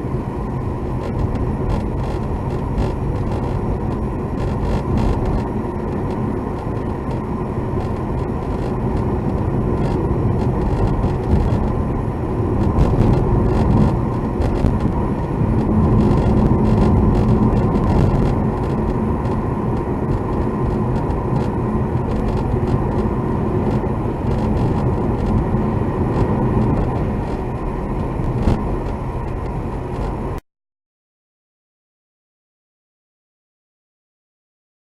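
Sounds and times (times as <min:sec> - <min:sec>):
car engine and road rumble: 0:00.0 - 0:30.4.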